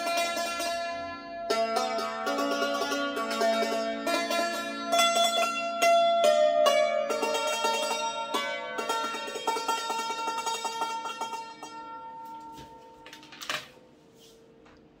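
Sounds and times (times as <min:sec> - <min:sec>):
hammered dulcimer notes: 0:00.0 - 0:13.3.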